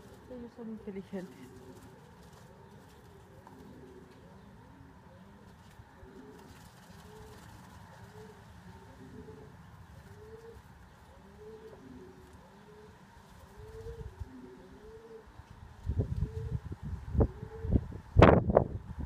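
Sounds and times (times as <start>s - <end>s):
pigeon cooing: 1.2s - 15.4s, 16.1s - 17.9s.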